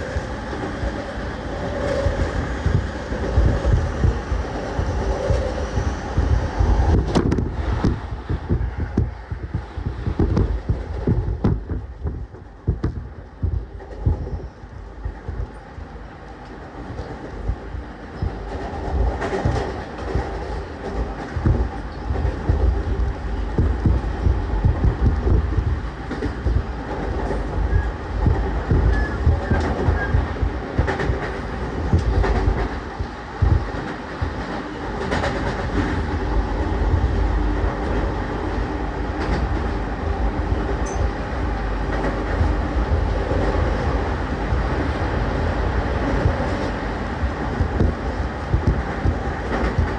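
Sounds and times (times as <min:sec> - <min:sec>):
train wheels and motors rumbling: 0:00.0 - 0:49.9
wheels clicking over rail joints: 0:00.0 - 0:49.9.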